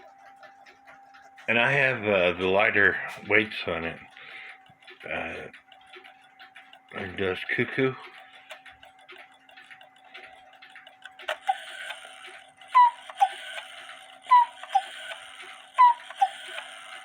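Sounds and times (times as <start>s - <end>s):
clock ticking: 0.0s - 17.0s
cuckoo clock call: 0.0s - 17.0s.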